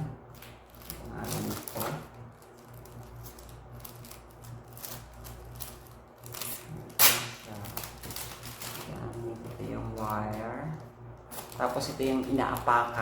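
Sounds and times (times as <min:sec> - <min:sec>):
packaging rustling: 0:00.3 - 0:13.0.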